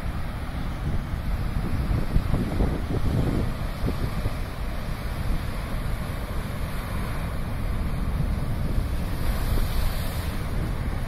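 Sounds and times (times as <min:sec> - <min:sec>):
surf breaking on rocky shore: 0:00.0 - 0:11.0
wind buffeting microphone: 0:00.0 - 0:11.0.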